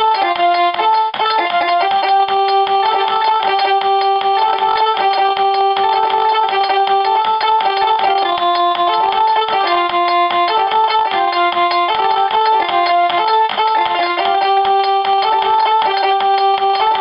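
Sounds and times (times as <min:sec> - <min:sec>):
instrumental party music: 0:00.0 - 0:17.0.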